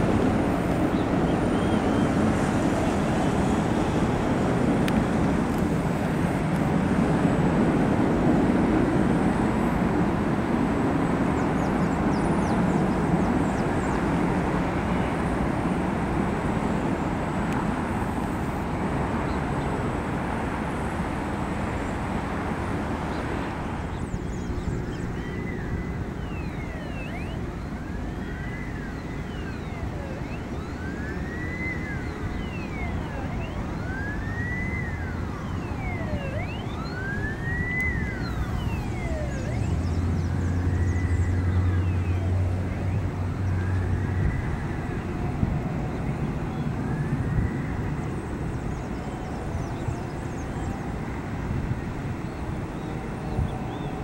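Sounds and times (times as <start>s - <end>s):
emergency vehicle siren wailing: 0.0s - 54.0s
jet engines rumbling: 0.0s - 54.0s.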